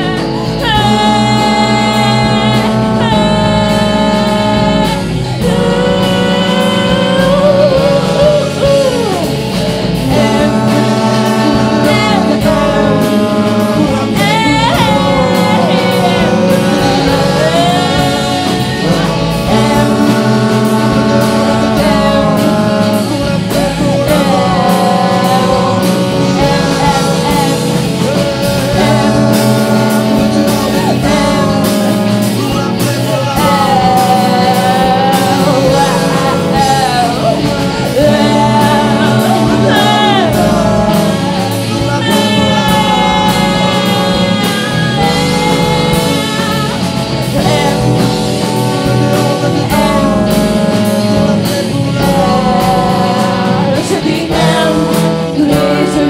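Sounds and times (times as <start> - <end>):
electric bass: 0.0 - 56.0
saxophone: 0.0 - 56.0
several voices singing: 0.0 - 56.0
trombone: 0.0 - 56.0.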